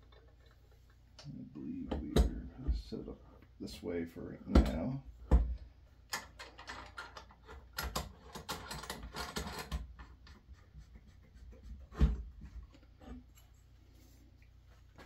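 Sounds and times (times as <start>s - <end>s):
light clicks taps and scrapes: 0.0s - 3.5s, 4.5s - 15.0s.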